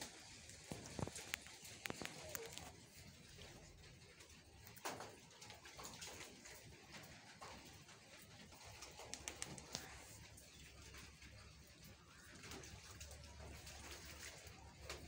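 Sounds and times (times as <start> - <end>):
chickens cooing: 0.7 - 15.0.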